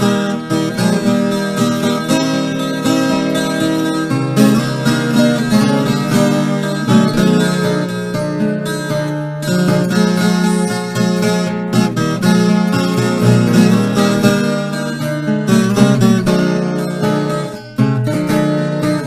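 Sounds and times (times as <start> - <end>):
plucked steel-string guitar tune: 0.0 - 19.0.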